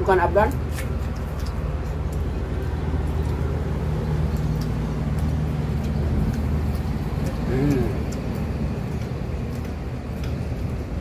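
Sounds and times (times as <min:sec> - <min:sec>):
constant low hum: 0:00.0 - 0:11.0
road traffic rumble: 0:00.0 - 0:11.0.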